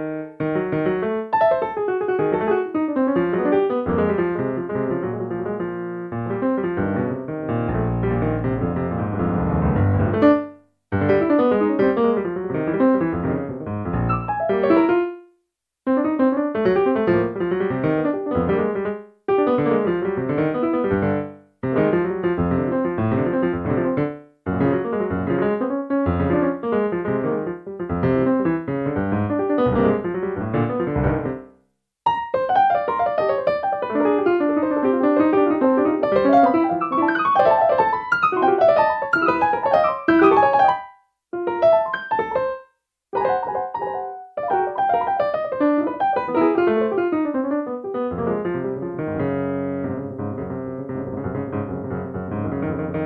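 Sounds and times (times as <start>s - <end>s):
digital piano improvisation: 0.0s - 31.5s, 32.1s - 53.0s.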